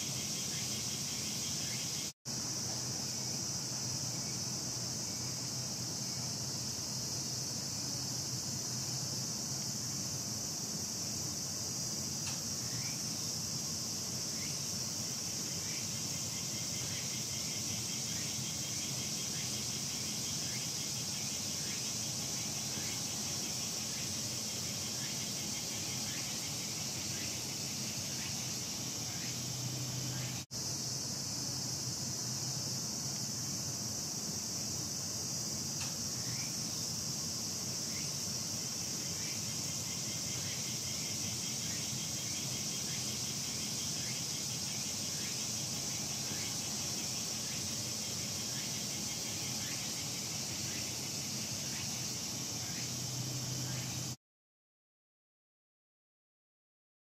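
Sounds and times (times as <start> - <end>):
high-pitched insect drone: 0.0 - 54.2.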